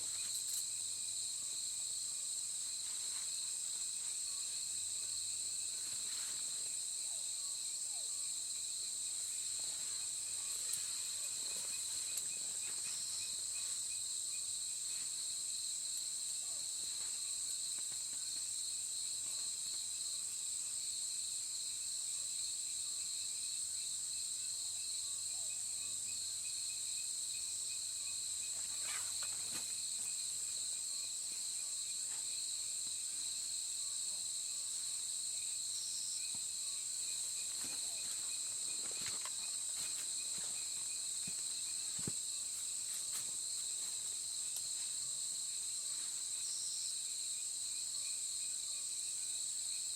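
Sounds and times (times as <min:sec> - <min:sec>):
insects trilling: 0:00.0 - 0:49.9.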